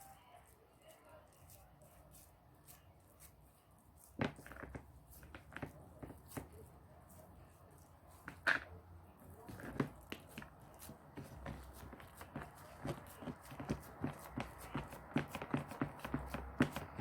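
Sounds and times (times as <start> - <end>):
hands working meat onto skewers: 0.0 - 17.0.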